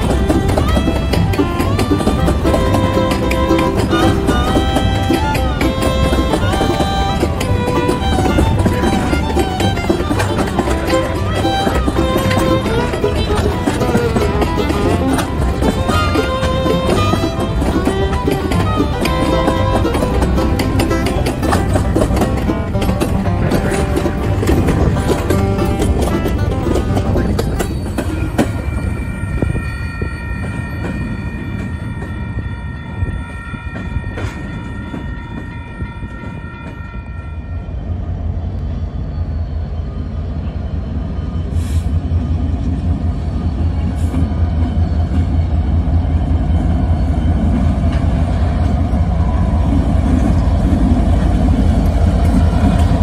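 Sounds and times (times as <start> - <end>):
diesel locomotive engine rumble: 0.0 - 53.0.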